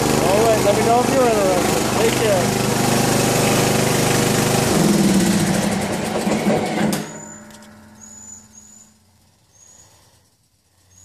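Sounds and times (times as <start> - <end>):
mower engine winding down: 0.0 - 10.4.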